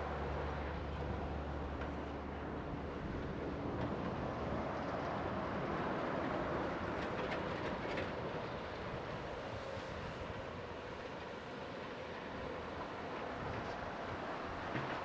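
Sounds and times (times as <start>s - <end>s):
excavator diesel engines rumbling: 0.0s - 15.0s.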